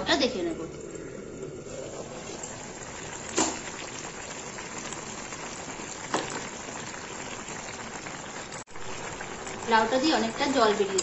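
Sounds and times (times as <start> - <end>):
vegetables simmering in oil: 0.0 - 11.0.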